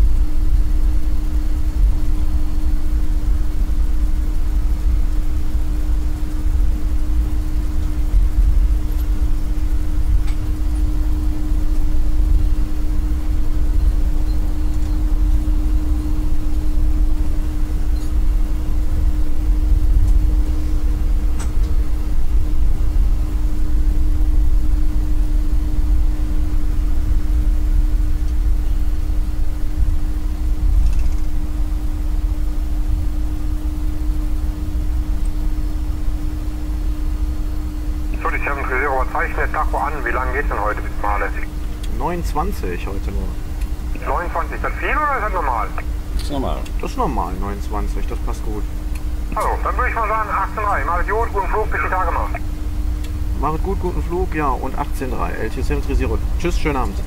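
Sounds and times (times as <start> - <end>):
aircraft engines at taxi idle: 0.0 - 57.0.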